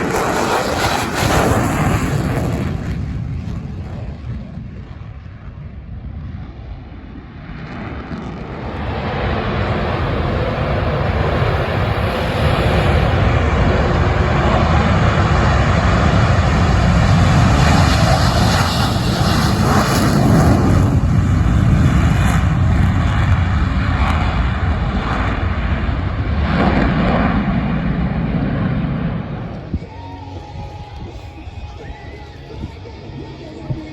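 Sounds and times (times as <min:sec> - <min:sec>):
jet engine roar: 0:00.0 - 0:33.9.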